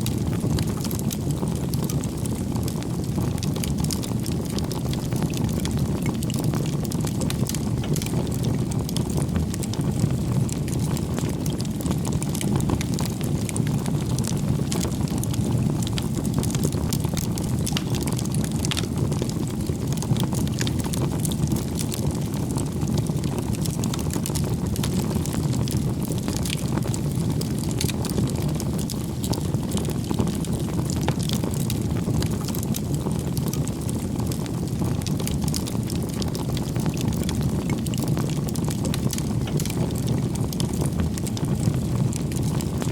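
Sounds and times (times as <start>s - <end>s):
campfire burning: 0.0s - 42.9s
fire crackling and popping: 0.0s - 42.9s.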